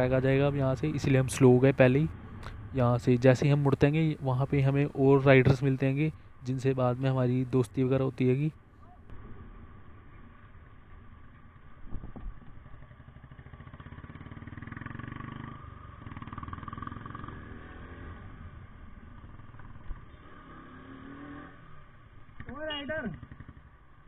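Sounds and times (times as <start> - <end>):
motorcycle engines at low revs: 0.0 - 24.0.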